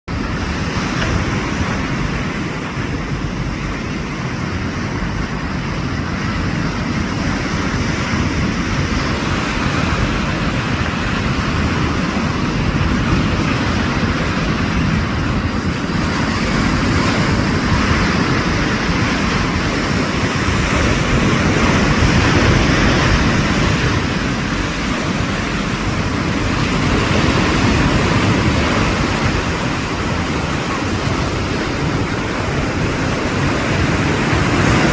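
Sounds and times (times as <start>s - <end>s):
sea surf washing: 0.1s - 34.9s.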